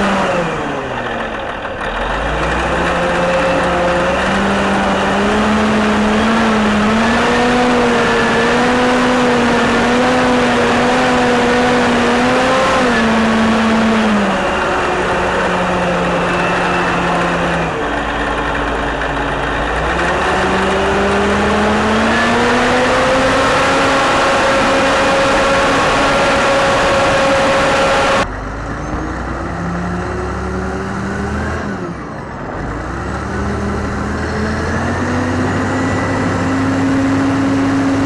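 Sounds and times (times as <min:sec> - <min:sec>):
wheel loader diesel engine: 0:00.0 - 0:38.0.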